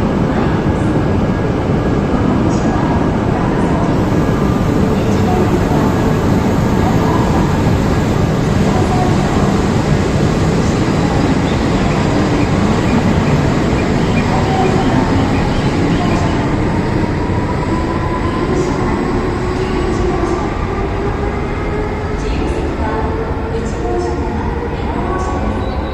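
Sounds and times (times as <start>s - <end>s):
train running rumble: 0.0s - 25.9s.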